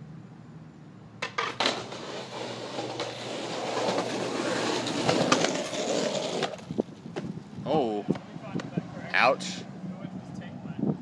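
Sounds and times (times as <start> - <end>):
skateboard wheels rolling on concrete: 0.7 - 11.0.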